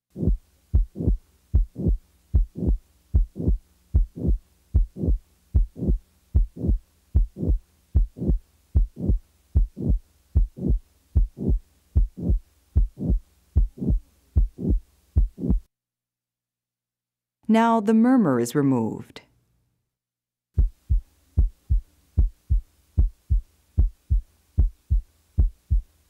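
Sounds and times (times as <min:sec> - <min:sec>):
heart beating: 0:00.1 - 0:15.7, 0:20.6 - 0:25.9
heart murmur: 0:00.1 - 0:15.7, 0:20.6 - 0:25.9.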